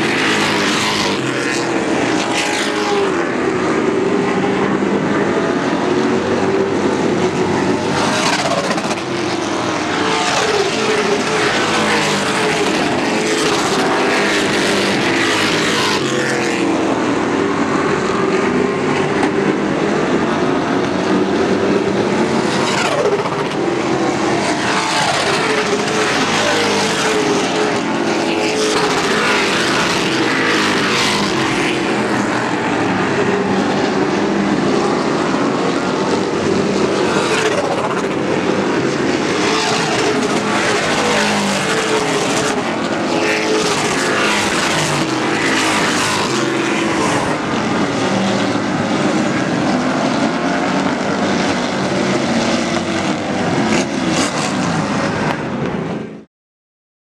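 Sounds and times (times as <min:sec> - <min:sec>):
race truck engines passing: 0:00.0 - 0:56.1.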